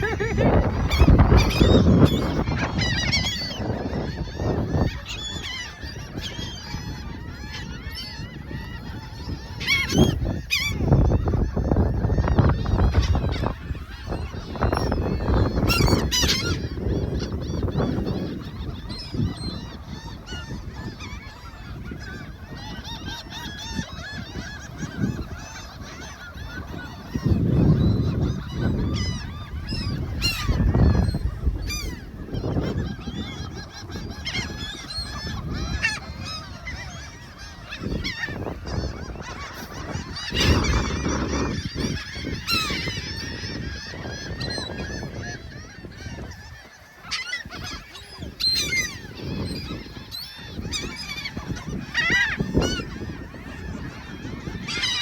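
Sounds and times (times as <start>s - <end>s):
seagulls calling: 0.0s - 55.0s.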